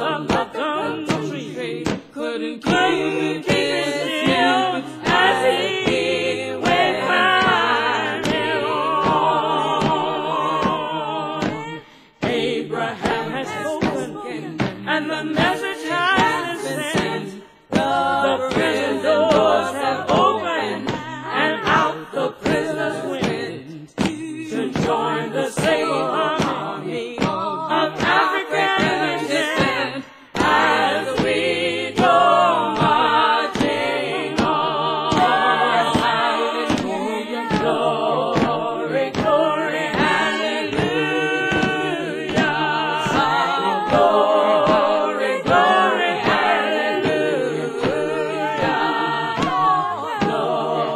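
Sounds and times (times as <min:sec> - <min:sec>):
group singing gospel song: 0:00.0 - 0:50.9.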